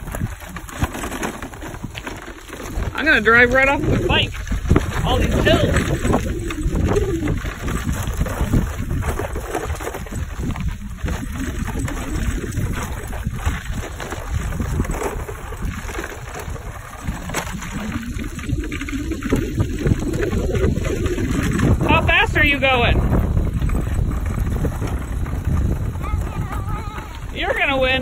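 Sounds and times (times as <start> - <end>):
wheelchair tyres crunching on gravel: 0.0 - 28.0
wind rumbling on microphone: 0.0 - 28.0.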